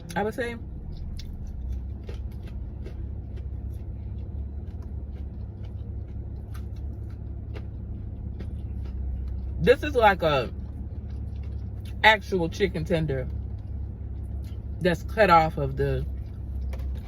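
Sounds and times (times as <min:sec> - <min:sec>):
chewing crispy food: 0:00.0 - 0:17.0
low rumble: 0:00.0 - 0:17.0.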